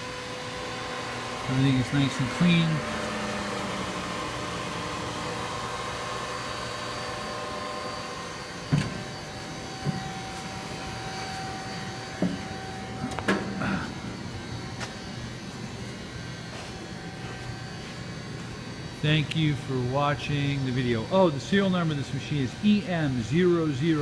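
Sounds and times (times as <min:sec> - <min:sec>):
machinery hum: 0:00.0 - 0:24.0.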